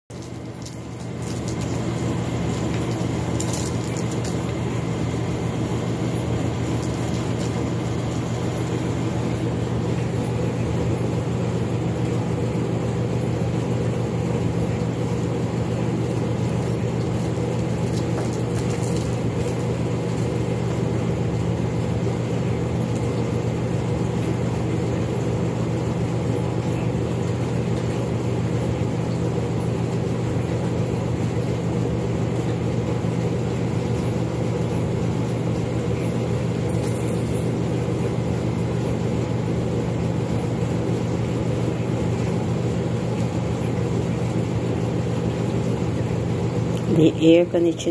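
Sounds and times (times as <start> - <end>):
air conditioner humming: 0.1 - 47.9.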